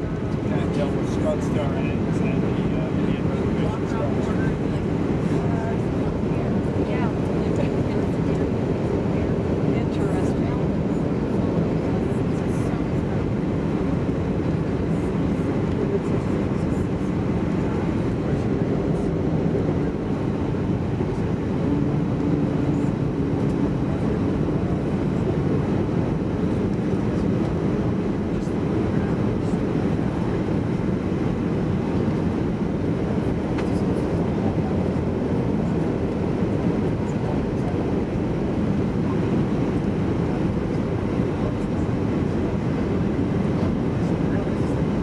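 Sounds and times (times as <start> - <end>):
airplane engine drone: 0.0 - 45.0.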